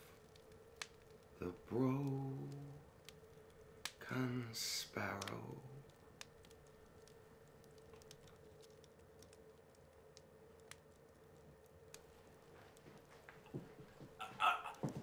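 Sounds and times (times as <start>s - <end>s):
faint clicks: 0.0s - 14.0s
faint steady hum: 0.0s - 15.0s.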